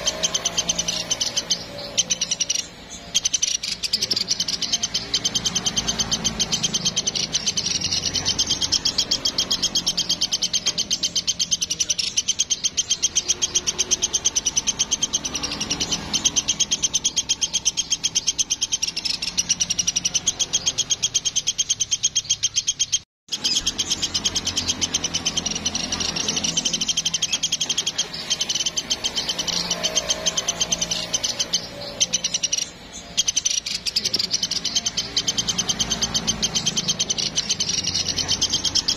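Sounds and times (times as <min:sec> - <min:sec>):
woodpecker chattering: 0:00.0 - 0:38.9.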